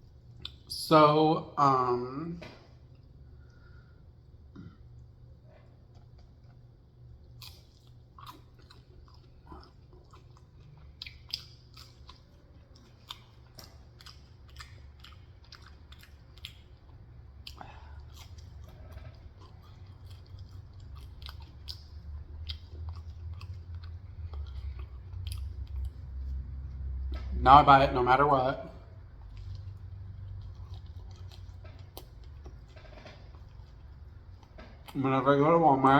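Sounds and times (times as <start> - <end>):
low steady hum: 0.0 - 35.9
person chewing crunchy food: 2.8 - 27.3, 28.8 - 35.0.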